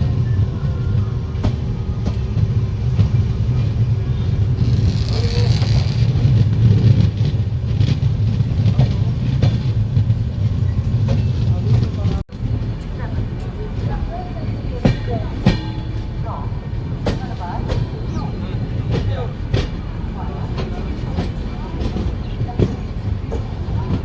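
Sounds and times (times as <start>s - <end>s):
train rumbling on track: 0.0s - 24.0s
wheels clicking over rail joints: 0.1s - 24.0s.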